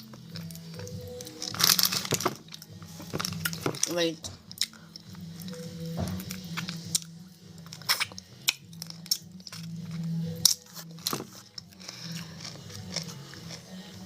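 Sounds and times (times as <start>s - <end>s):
crunchy chewing and biting: 0.0s - 3.9s, 4.5s - 14.0s.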